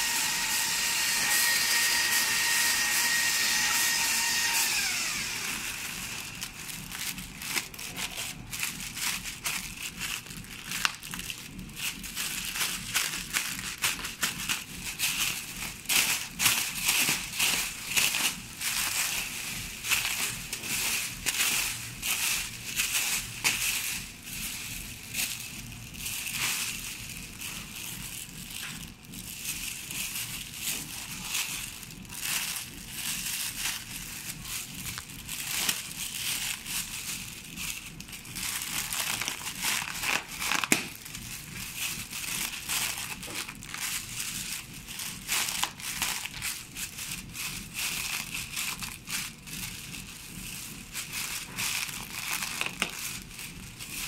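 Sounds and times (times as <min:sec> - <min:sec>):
plastic film crinkling: 0:00.0 - 0:54.0.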